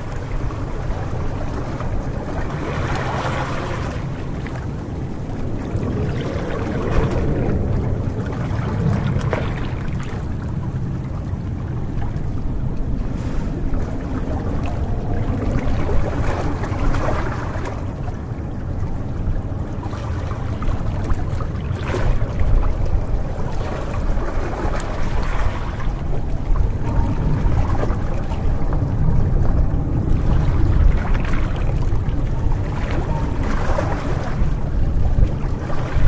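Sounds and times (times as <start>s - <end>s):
sea waves lapping against rocks: 0.0s - 36.0s
steady low rumble: 0.0s - 36.0s.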